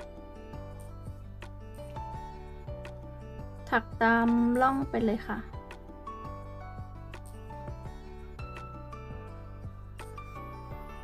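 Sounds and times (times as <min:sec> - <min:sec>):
background music with light beats: 0:00.0 - 0:11.0.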